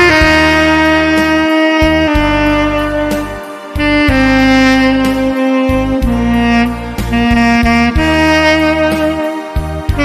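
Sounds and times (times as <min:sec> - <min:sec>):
backing accompaniment: 0:00.0 - 0:10.0
tenor saxophone melody: 0:00.0 - 0:10.0.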